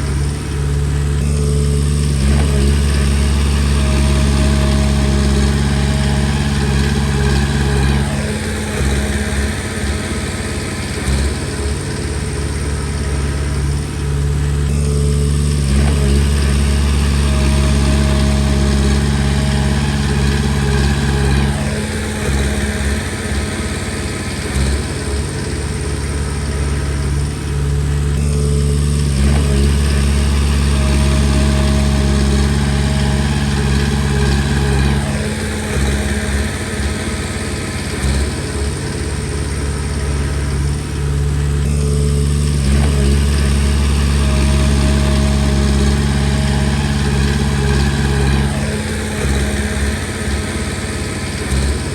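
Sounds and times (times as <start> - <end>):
bulldozer diesel engine: 0.0 - 51.9.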